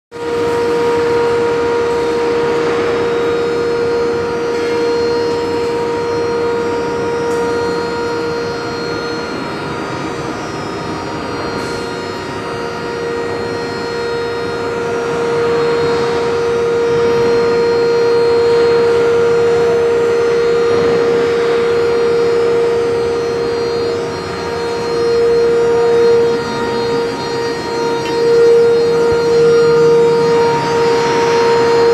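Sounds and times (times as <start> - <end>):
continuous noisy rush: 0.1 - 31.9
furnace high-pitched hum: 0.1 - 31.9.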